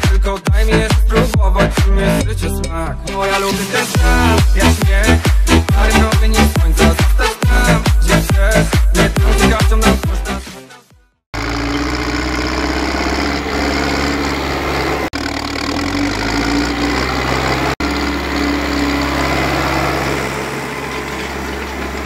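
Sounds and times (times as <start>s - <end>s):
tractor diesel engine running: 0.0s - 10.1s, 11.3s - 22.0s.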